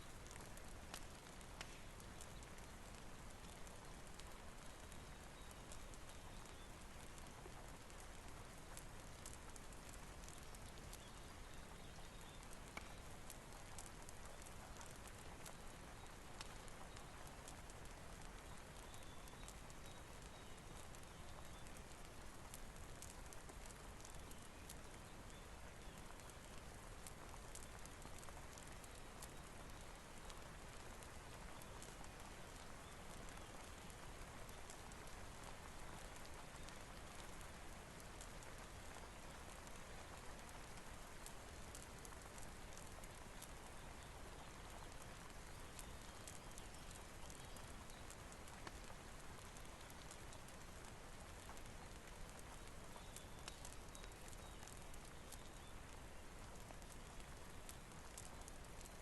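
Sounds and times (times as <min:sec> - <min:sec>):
light ticks and crackles: 0:00.0 - 0:59.0
rain hiss: 0:00.0 - 0:59.0.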